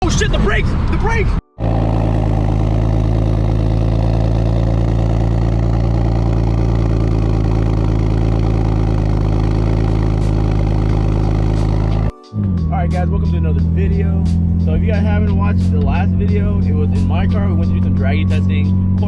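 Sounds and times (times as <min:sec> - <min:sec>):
car engine running steadily: 0:01.6 - 0:12.1, 0:13.0 - 0:19.0.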